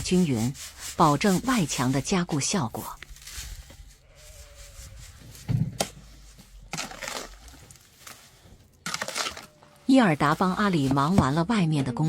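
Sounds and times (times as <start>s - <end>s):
sand rustling in a dustpan: 0.0s - 11.1s.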